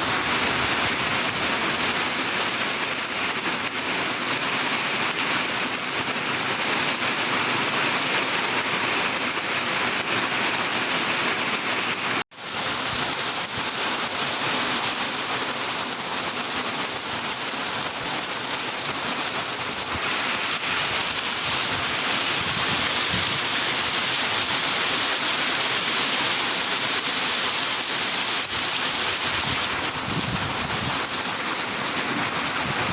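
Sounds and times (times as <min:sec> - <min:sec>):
heavy rain falling on surfaces: 0:00.0 - 0:32.9.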